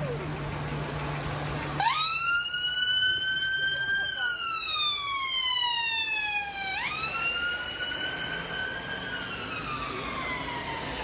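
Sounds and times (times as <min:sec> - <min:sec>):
road traffic hum: 0:00.0 - 0:11.0
siren wailing: 0:01.8 - 0:11.0.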